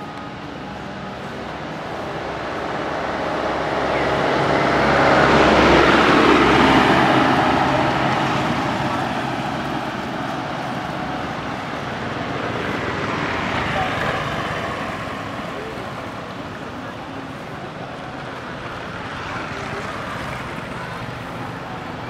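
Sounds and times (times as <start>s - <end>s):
vehicle passing by: 0.0s - 22.0s.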